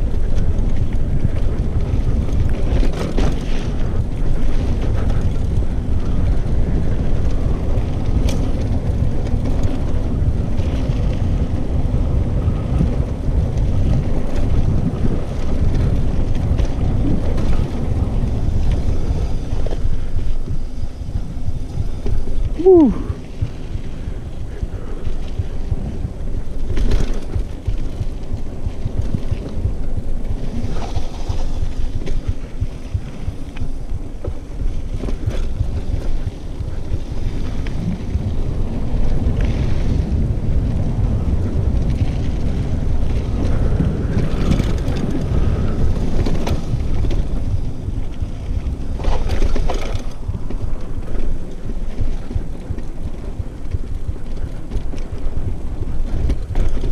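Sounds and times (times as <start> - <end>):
bike clacking and rattling: 0.0 - 22.6, 23.3 - 56.9
tyres rumbling on dirt: 0.0 - 56.9
wind on microphone: 0.0 - 56.9.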